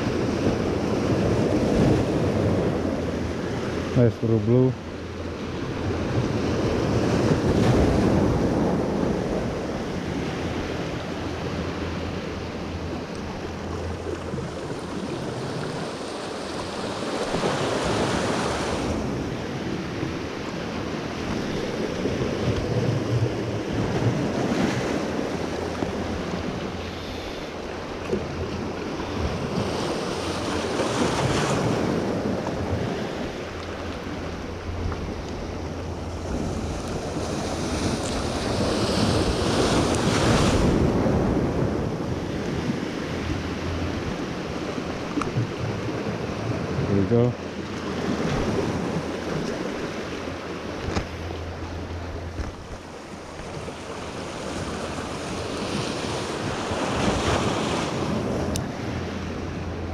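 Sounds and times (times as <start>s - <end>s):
surf washing among rocks: 0.0s - 59.9s
wind buffeting microphone: 0.0s - 59.9s.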